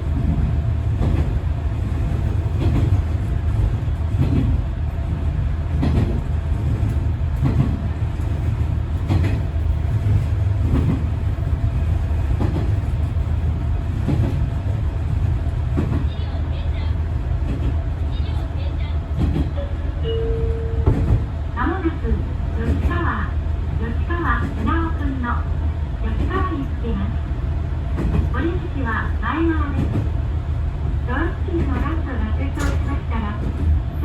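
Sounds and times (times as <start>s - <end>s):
diesel railcar engine rumble: 0.0s - 34.0s.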